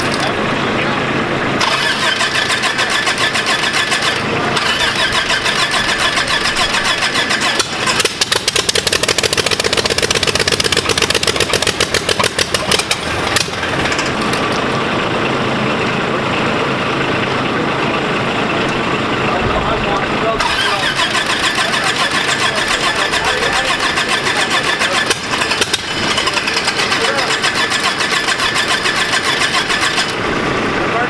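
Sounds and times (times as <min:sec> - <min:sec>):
aircraft engine running: 0:00.0 - 0:31.0.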